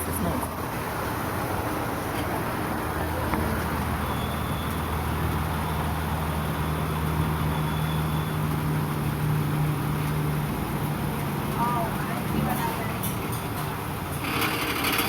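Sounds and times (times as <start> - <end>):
minivan engine humming: 0.0 - 15.0.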